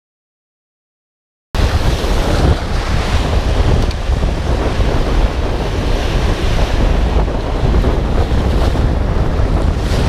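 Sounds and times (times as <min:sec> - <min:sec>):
surf breaking on rocks: 0:01.6 - 0:10.0
wind buffeting microphone: 0:01.6 - 0:10.0.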